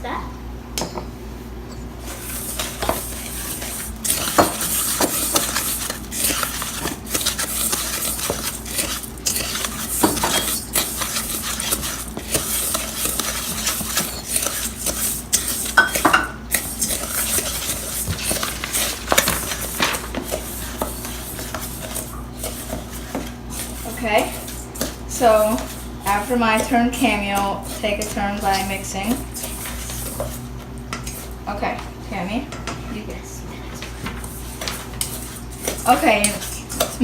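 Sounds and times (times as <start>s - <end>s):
utensil scraping and clinking bowl: 1.7s - 31.4s, 33.8s - 37.0s.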